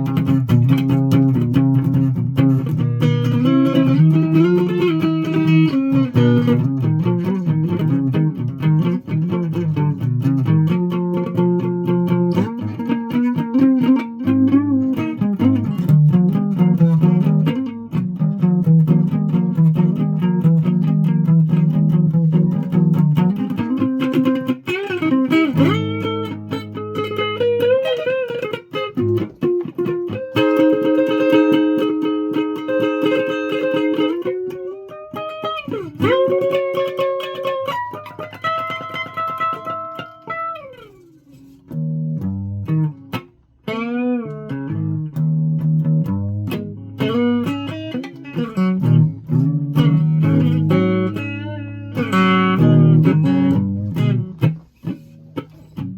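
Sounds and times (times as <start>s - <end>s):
guitar playing: 0.0s - 55.9s.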